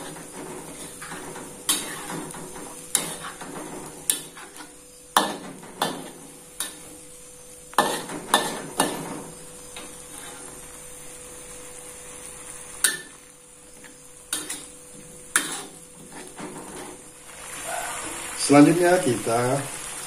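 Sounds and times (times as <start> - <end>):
paste sizzling in oil: 0.0 - 20.0.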